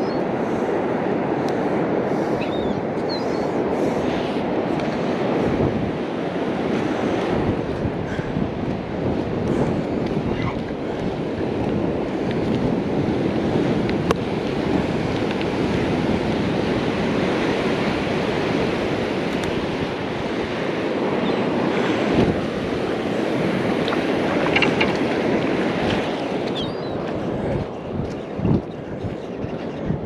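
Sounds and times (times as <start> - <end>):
ocean surf on beach: 0.0 - 30.0
wind on microphone: 0.0 - 30.0.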